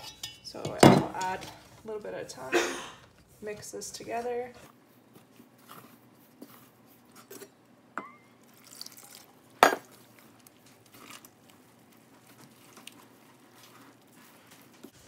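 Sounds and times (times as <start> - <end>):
wooden spoon stirring dough: 0.0 - 7.6, 9.8 - 15.0.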